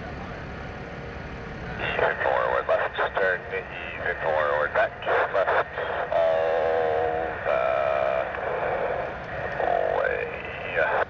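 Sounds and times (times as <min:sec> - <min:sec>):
person speaking over radio: 0:01.7 - 0:11.0.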